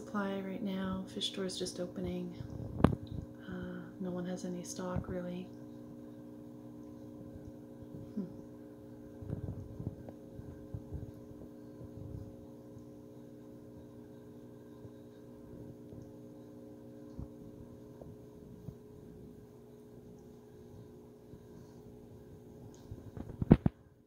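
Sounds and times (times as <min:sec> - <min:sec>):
aquarium equipment humming: 0:00.0 - 0:24.0.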